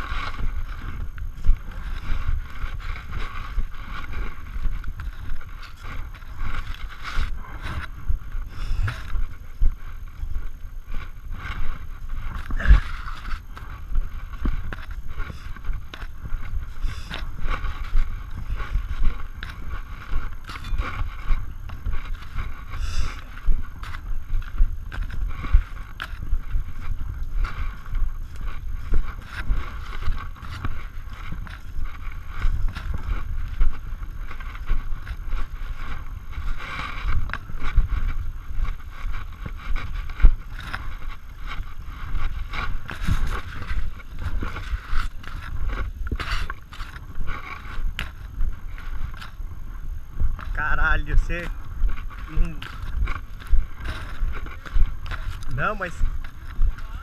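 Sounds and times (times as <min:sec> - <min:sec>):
microphone handling noise: 0:00.0 - 0:57.0
wind rumble: 0:00.0 - 0:57.0.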